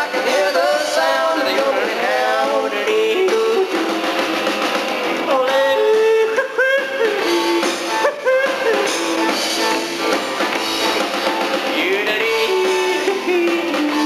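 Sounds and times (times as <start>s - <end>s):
country-rock band playing: 0.0s - 14.0s.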